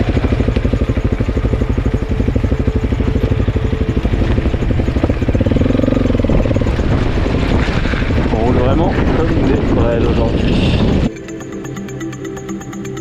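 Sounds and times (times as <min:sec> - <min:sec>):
motorcycle engine pulsing: 0:00.0 - 0:13.0.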